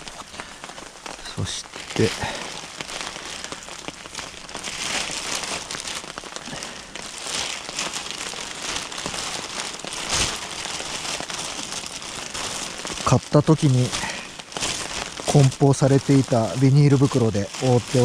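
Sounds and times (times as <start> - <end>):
plastic bag rustling and crinkling: 0.0 - 18.0.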